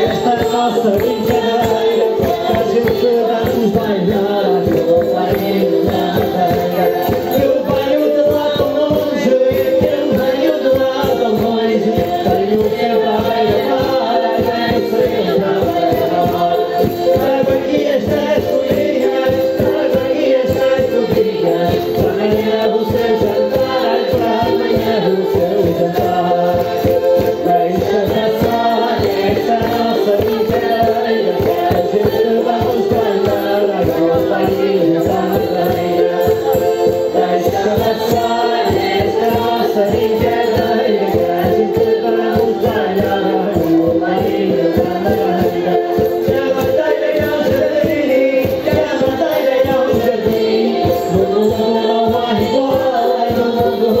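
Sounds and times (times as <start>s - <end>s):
folk music: 0.0s - 54.0s
voices singing: 0.0s - 54.0s.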